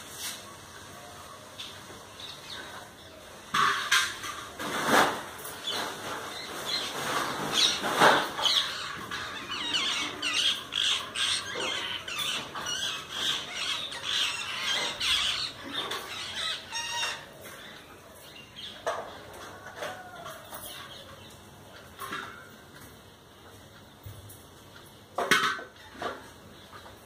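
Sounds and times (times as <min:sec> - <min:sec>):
birds chirping and squawking: 0:00.9 - 0:25.0.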